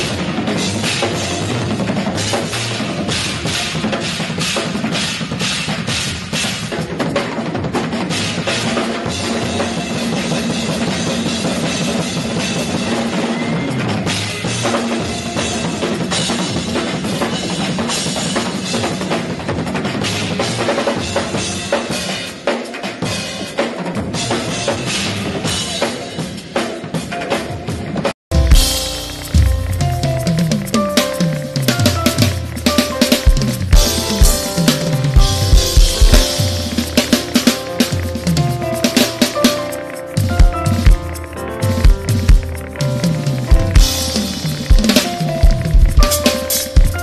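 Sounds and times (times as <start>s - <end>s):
drum kit solo: 0.0s - 47.0s.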